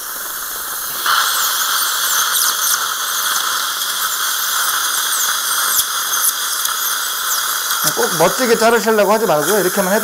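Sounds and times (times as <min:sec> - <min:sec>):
dental drill hissing: 0:00.0 - 0:10.0.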